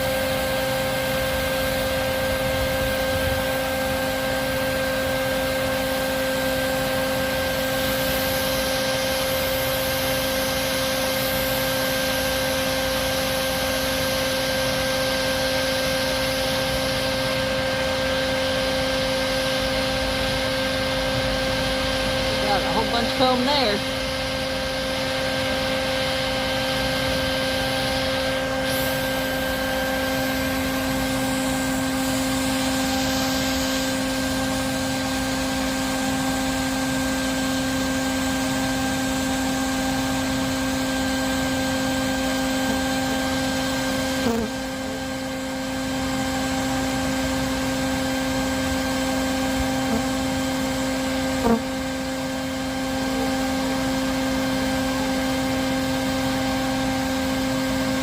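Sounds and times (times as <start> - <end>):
vacuum motor hum and rushing air: 0.0 - 58.0.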